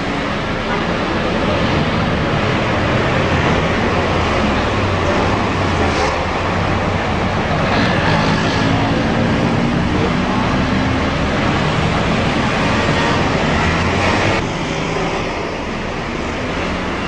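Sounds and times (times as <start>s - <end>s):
city road traffic: 0.0s - 17.0s.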